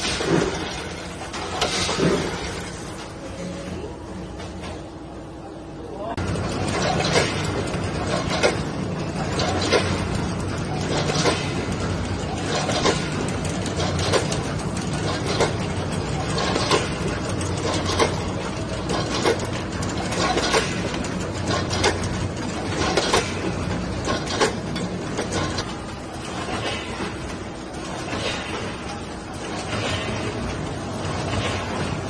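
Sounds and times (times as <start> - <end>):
packaging machine clacking: 6.2 - 32.0.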